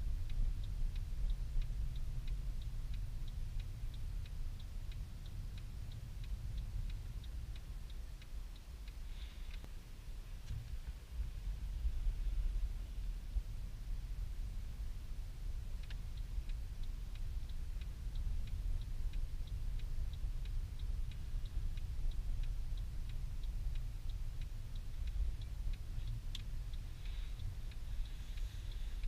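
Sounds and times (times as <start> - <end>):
car engine and tyres rumble: 0.0 - 29.0
turn signal clicking: 0.0 - 29.0.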